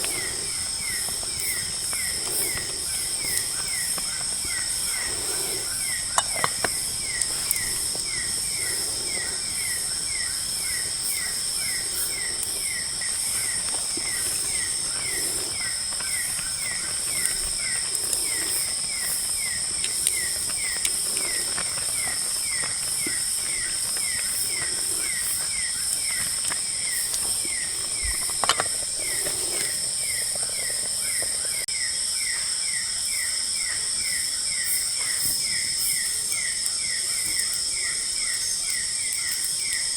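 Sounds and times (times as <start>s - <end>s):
high drone of insects: 0.0s - 39.9s.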